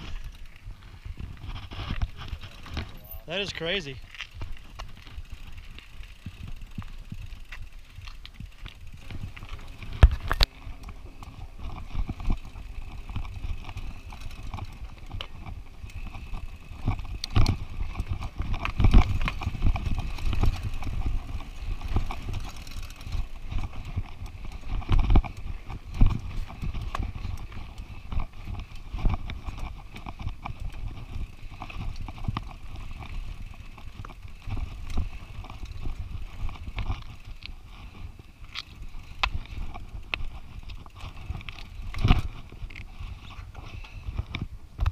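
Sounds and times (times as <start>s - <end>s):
bike rattling with sharp knocks: 0.0s - 44.9s
low rumble of tyres on rock: 0.0s - 44.9s.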